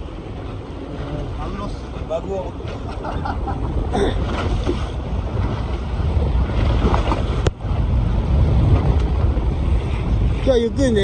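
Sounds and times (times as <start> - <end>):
sea water rushing along hull: 0.0 - 11.0
wind rumbling on microphone: 0.0 - 11.0.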